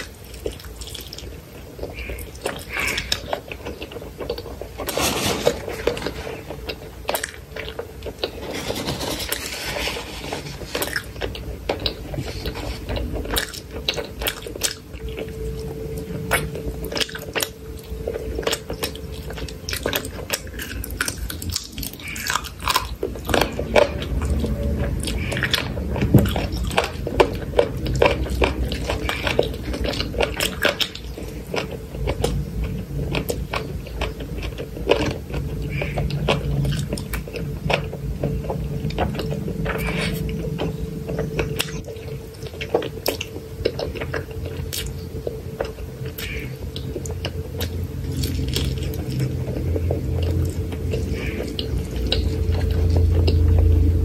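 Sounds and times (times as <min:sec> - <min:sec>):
chewing and wet mouth clicks: 0:10.8 - 0:54.0.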